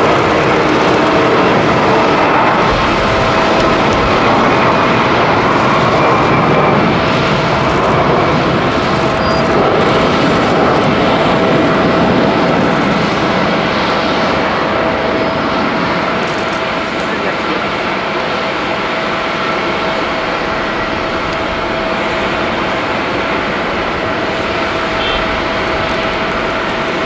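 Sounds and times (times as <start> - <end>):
faint engine whine: 0.0 - 27.0
jet engines roaring: 0.0 - 27.0.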